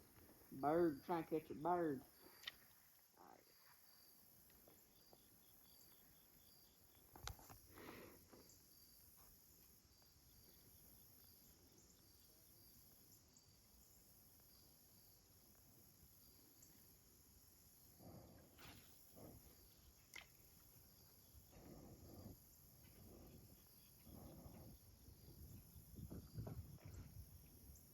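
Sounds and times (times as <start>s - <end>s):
faint insect chirping: 0.0s - 27.9s.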